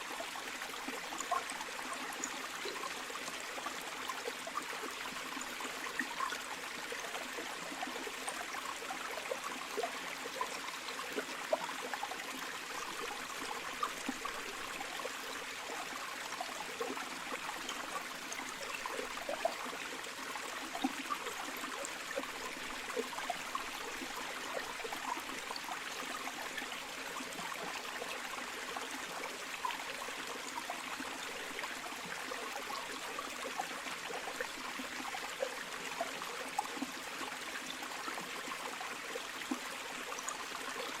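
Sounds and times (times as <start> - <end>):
stream flowing: 0.0 - 41.0.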